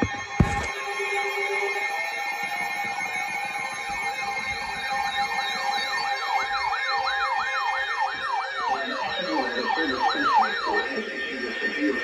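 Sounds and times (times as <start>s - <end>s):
electronic alert siren: 0.2s - 12.0s.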